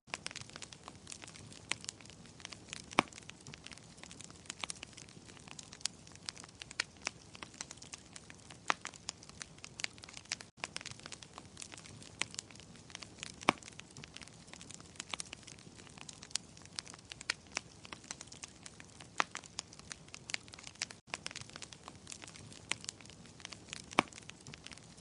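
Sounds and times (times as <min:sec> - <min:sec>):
wood fire crackling: 0:00.1 - 0:25.0.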